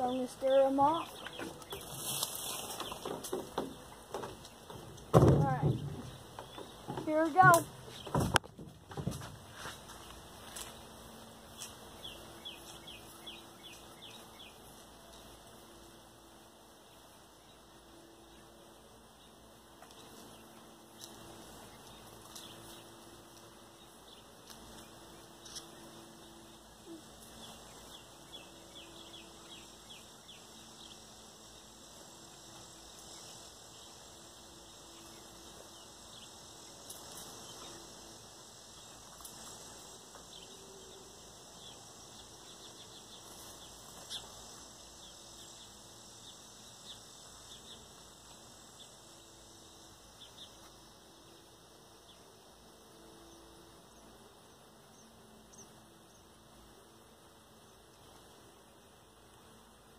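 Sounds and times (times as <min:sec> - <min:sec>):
sparrows chirping: 0:00.0 - 0:08.4, 0:09.5 - 0:59.9.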